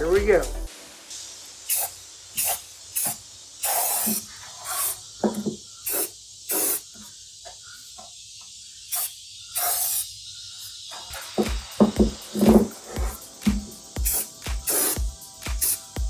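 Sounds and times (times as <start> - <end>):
spray paint bursts on steel: 1.0 - 7.2, 8.9 - 16.0.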